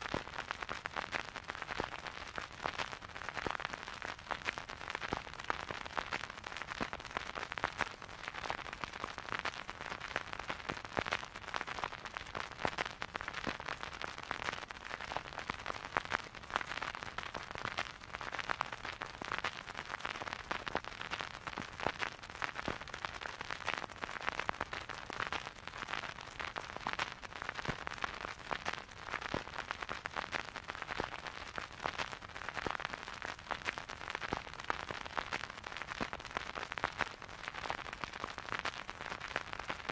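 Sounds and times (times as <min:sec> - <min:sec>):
vinyl record crackle and hiss: 0:00.0 - 0:39.9.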